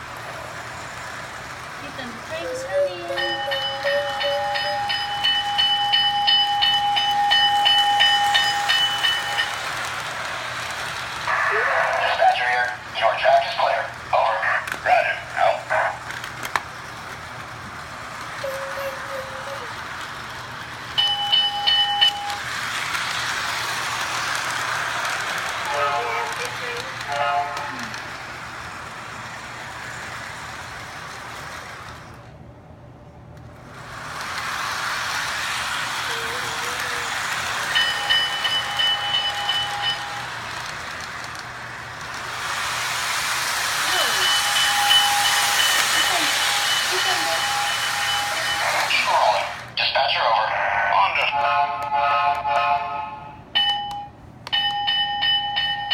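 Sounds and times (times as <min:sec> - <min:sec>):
toy train clicking on track: 0:00.0 - 0:32.3, 0:33.4 - 0:55.9.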